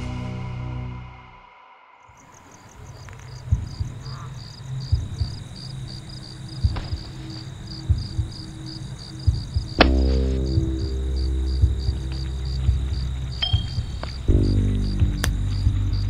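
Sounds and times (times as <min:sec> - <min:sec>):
crickets chirping: 0:02.0 - 0:16.0
dull low thumps: 0:03.1 - 0:16.0.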